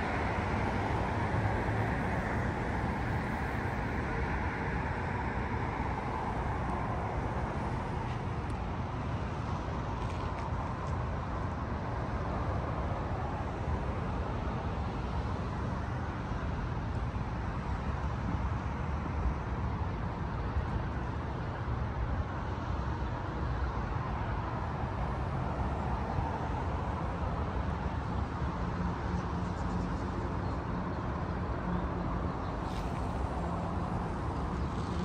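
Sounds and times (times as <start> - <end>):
city traffic rumble: 0.0 - 35.0.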